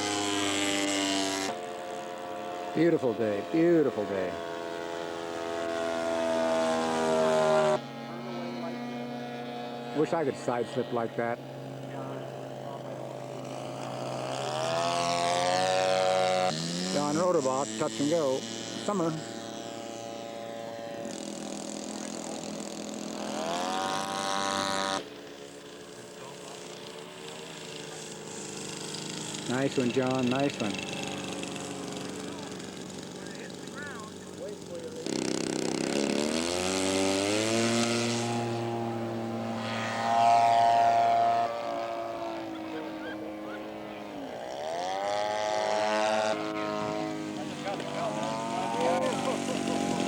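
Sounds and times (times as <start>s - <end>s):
model airplane engine running: 0.0s - 50.0s.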